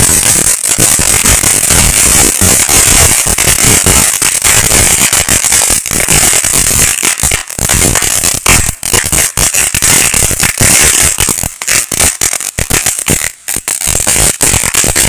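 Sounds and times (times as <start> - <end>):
firework fountain hissing and crackling: 0.0 - 15.0.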